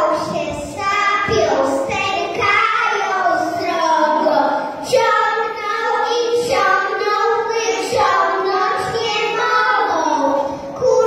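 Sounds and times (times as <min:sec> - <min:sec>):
children singing: 0:00.0 - 0:11.0.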